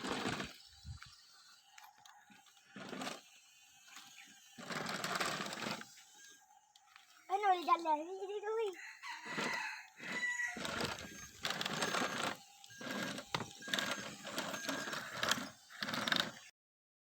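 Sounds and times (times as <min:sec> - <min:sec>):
toy motor and gears whirring: 0:00.0 - 0:16.6.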